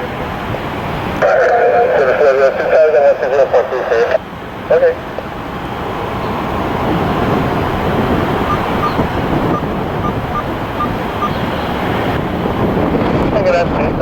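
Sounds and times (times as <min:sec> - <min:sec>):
jet airliner engine rushing: 0:00.0 - 0:14.0.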